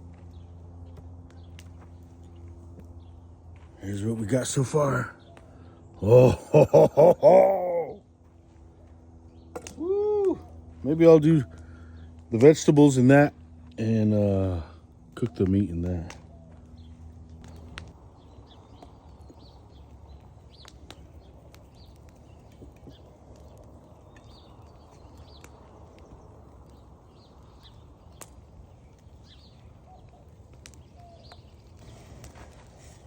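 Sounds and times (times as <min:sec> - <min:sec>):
fire popping: 0:00.0 - 0:08.0, 0:09.5 - 0:33.0
small birds chirping: 0:00.0 - 0:33.0
wood fire burning: 0:00.0 - 0:33.0.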